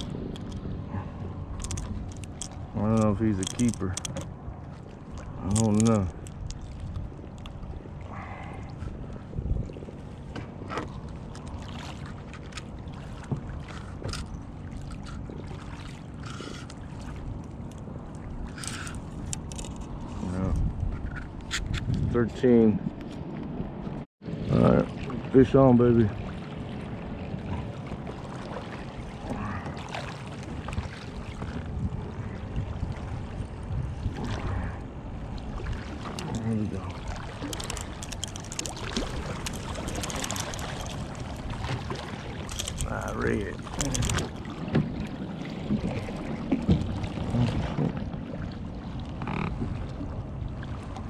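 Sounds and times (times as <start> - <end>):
water lapping against kayak hull: 0.0 - 51.0
wind rumbling on microphone: 0.0 - 51.0.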